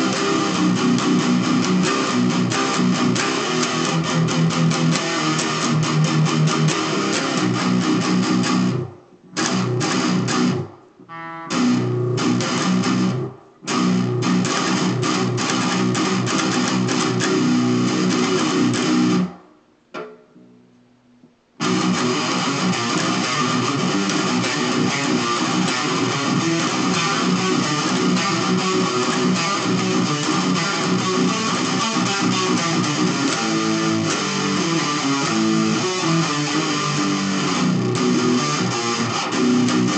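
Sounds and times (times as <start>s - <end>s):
electric guitar metal riffs: 0.0s - 19.4s, 21.6s - 39.9s.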